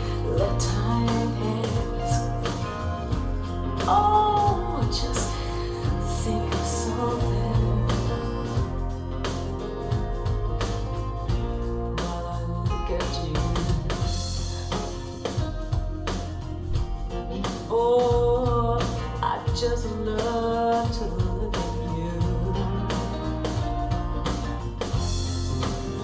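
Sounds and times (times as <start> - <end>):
song with vocals and beat: 0.0 - 26.0.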